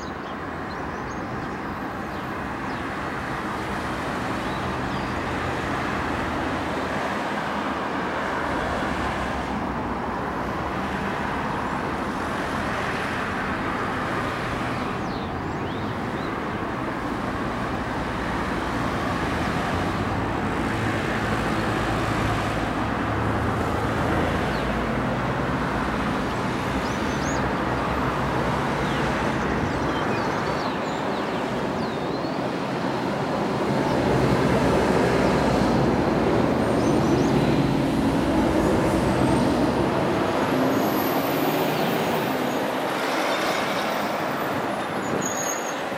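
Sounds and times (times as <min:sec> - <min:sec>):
bus passing close: 0:00.0 - 0:45.9
traffic passing: 0:00.0 - 0:45.9.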